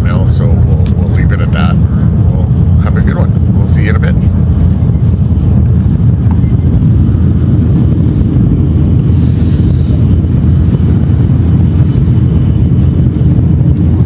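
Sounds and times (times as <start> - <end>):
train rumbling at speed: 0.0 - 14.0.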